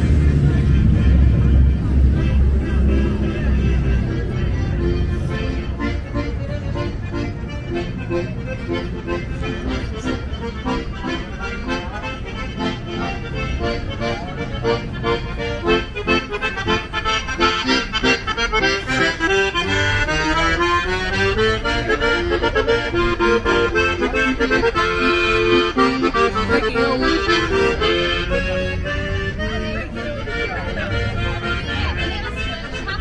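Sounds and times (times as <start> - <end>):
accordion playing a tune: 0.0 - 33.0.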